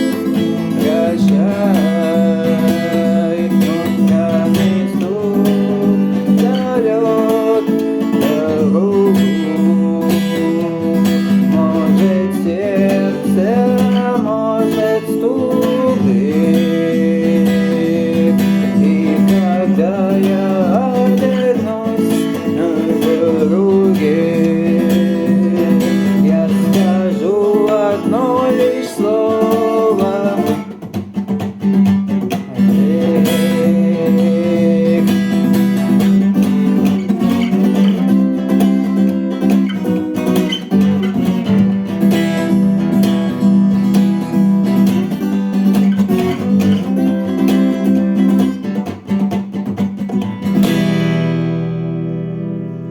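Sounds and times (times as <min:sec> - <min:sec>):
guitar melody: 0:00.0 - 0:52.9.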